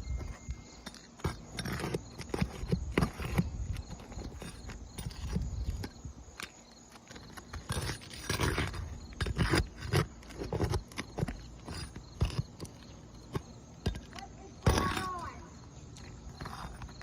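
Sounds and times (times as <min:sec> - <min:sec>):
knocks and scuffs on shingle roof: 0:00.0 - 0:17.0.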